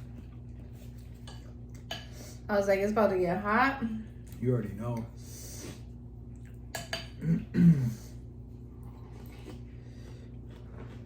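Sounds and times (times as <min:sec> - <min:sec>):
steady low background hum: 0:00.0 - 0:11.0.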